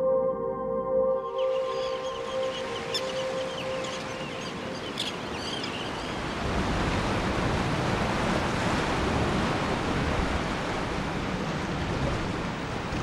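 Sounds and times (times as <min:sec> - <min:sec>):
ocean surf washing in: 0:01.5 - 0:13.0.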